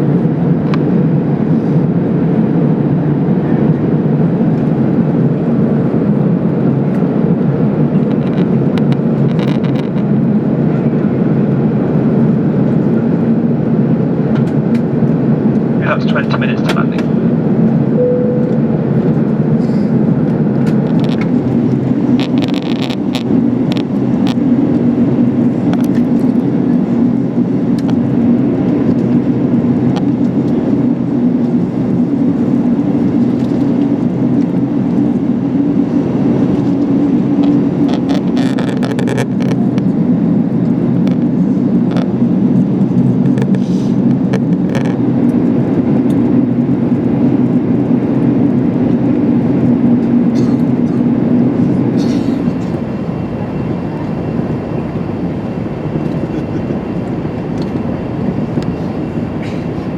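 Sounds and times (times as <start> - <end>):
aircraft cabin rumble: 0.0 - 59.9.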